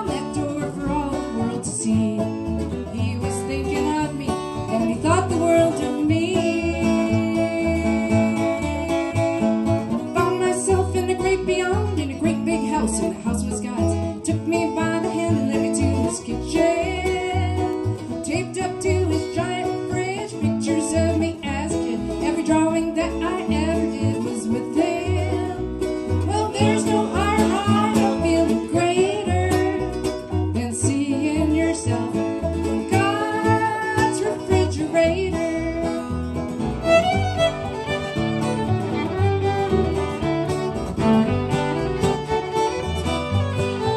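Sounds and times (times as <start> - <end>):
acoustic guitar: 0.0 - 43.9
banjo: 0.0 - 43.9
fiddle: 0.0 - 43.9
plucked upright bass: 0.0 - 43.9.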